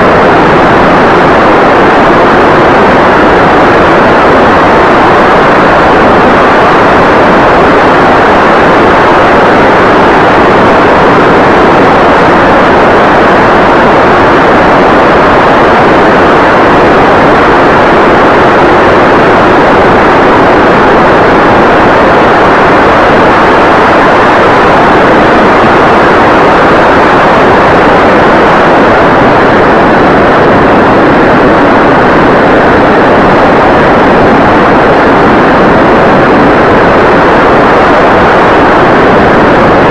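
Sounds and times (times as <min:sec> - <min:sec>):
wind and propeller rush: 0:00.0 - 0:39.9.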